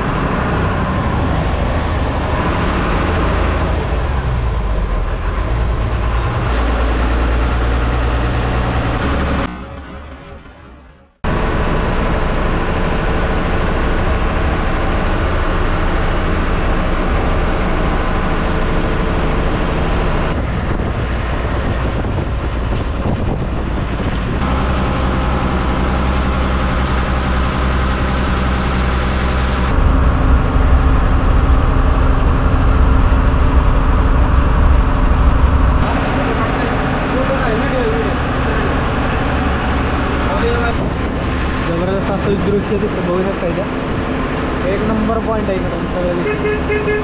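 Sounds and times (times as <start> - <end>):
bus diesel engine droning: 0.0 - 47.0.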